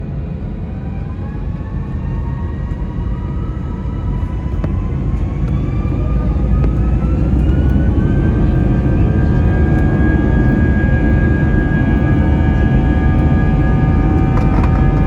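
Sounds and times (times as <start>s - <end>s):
jet engines spooling up: 0.0s - 15.0s.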